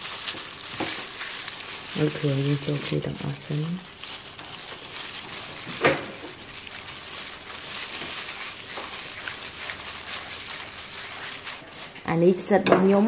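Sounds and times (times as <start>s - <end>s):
wet batter squishing: 0.0s - 12.0s
plastic glove crinkling: 0.0s - 12.3s.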